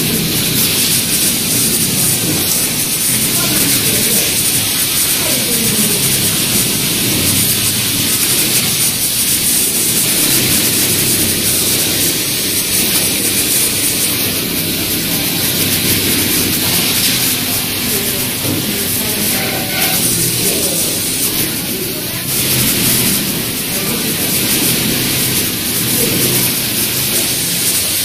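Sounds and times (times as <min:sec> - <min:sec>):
factory machinery hiss: 0:00.0 - 0:28.0.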